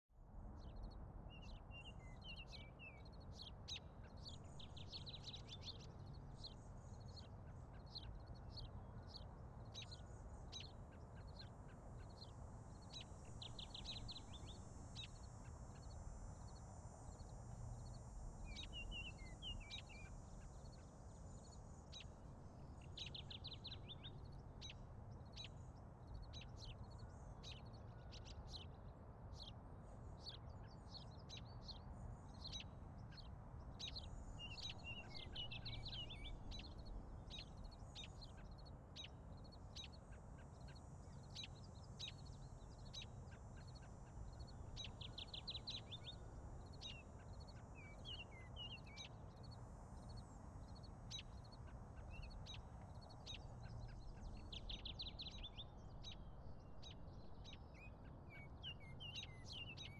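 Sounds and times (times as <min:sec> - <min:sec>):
small birds chirping: 0:00.2 - 0:59.9.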